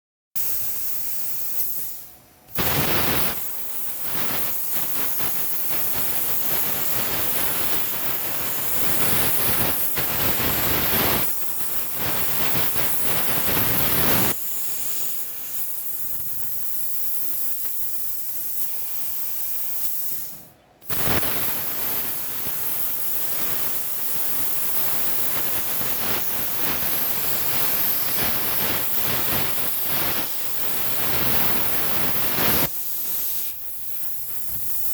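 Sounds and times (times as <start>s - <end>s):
plasma torch hissing: 0.4s - 34.9s.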